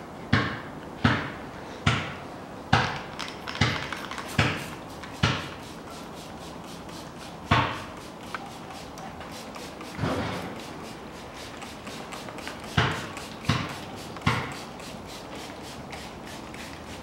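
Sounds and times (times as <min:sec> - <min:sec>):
spray bottle hissing sprays: 0:03.2 - 0:17.0.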